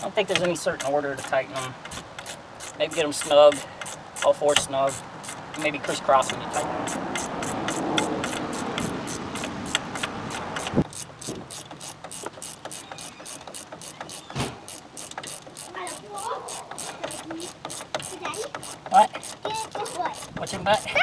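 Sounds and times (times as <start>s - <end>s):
ratchet wrench clicking: 0.0s - 21.0s.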